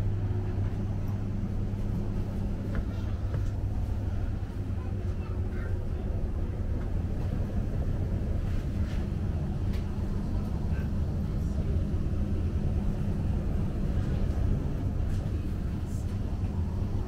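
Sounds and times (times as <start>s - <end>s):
electric train hum: 0.0s - 17.0s.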